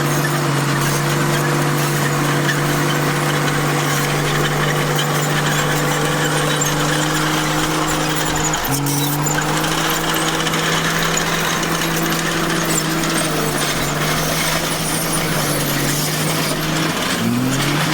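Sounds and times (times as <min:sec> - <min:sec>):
bulldozer diesel engine running: 0:00.0 - 0:17.9.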